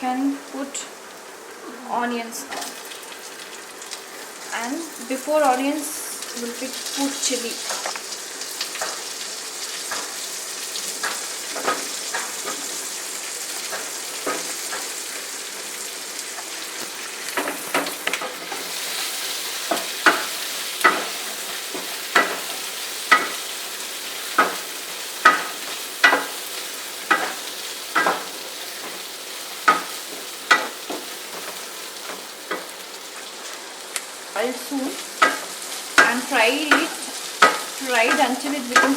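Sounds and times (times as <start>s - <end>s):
spices sizzling in oil: 0.0s - 38.9s.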